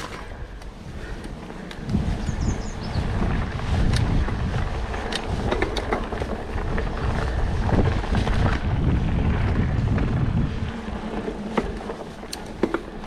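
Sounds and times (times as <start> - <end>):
bike clicks and rattles: 0.0 - 13.0
bike tyres rumbling over dirt: 0.0 - 13.0
wind buffeting microphone: 0.0 - 13.0.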